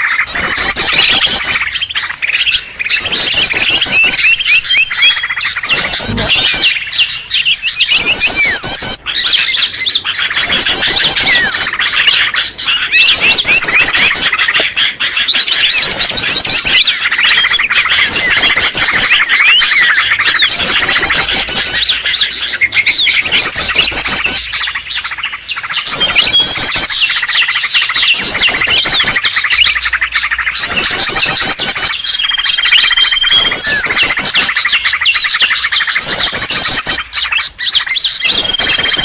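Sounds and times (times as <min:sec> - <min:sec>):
bird chirps whistles and trills: 0:00.0 - 0:39.0.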